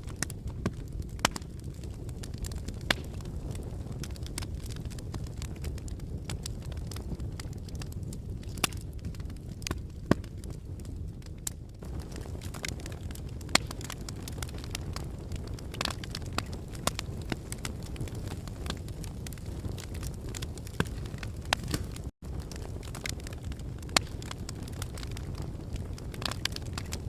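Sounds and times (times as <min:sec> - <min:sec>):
fire crackles and pops: 0:00.0 - 0:27.0
low rumble of flames: 0:00.0 - 0:27.0.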